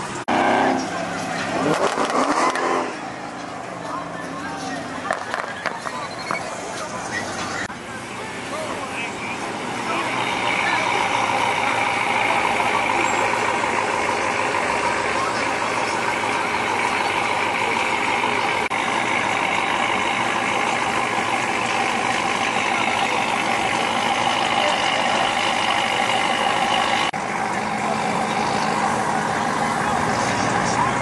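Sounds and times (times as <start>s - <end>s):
vehicles running: 0.0s - 31.0s.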